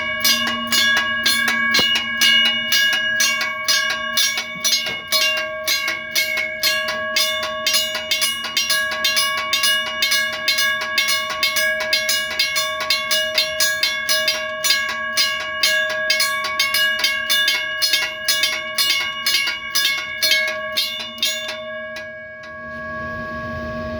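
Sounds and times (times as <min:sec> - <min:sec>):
railroad crossing bells ringing: 0:00.0 - 0:23.9.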